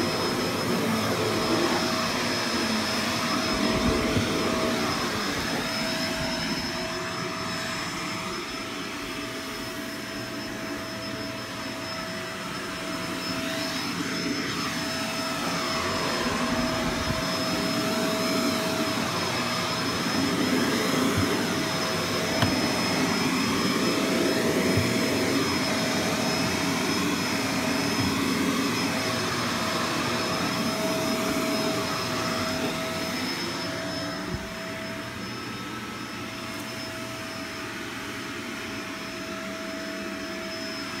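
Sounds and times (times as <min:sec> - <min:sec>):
vacuum cleaner running on carpet: 0:00.0 - 0:41.0.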